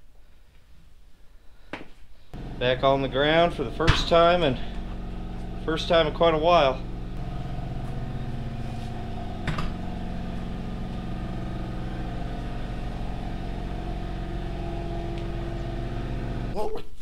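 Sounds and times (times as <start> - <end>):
low machine hum: 2.3 - 16.7.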